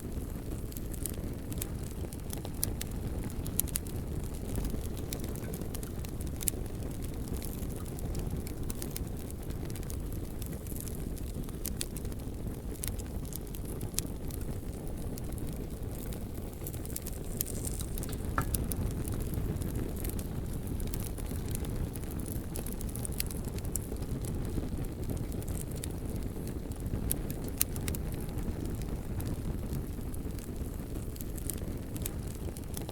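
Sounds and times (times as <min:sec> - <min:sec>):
burning wood crackling: 0:00.0 - 0:32.9
rush of flames: 0:00.0 - 0:32.9.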